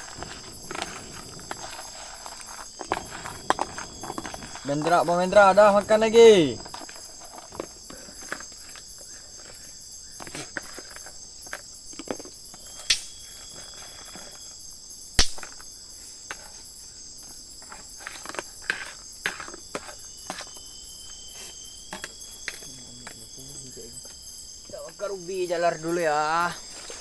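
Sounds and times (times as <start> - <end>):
insects chorus: 0.0 - 27.0.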